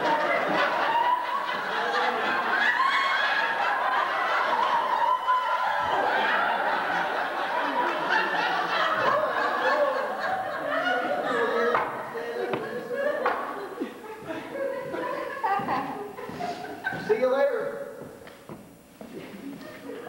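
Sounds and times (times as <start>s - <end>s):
audience laughing: 0.0s - 17.2s, 19.2s - 20.0s.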